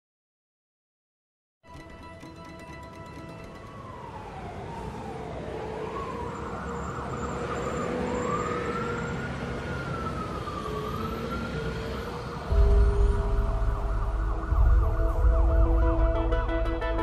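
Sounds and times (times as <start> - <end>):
siren wail: 3.2 - 17.0.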